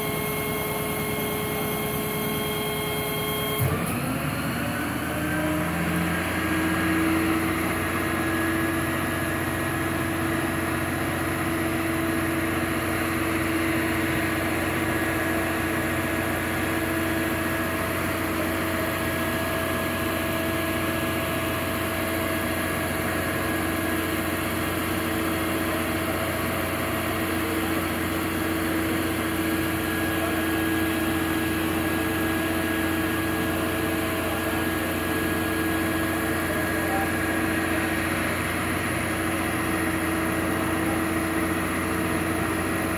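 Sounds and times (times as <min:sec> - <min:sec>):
diesel truck engine idling: 0:04.1 - 0:42.9.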